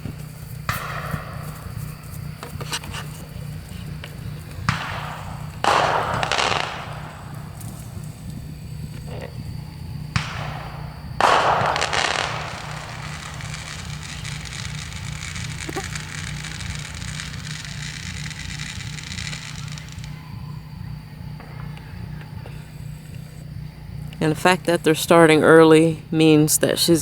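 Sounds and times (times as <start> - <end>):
firework bang: 0.0 - 24.6
firework crackling burst: 0.0 - 27.0.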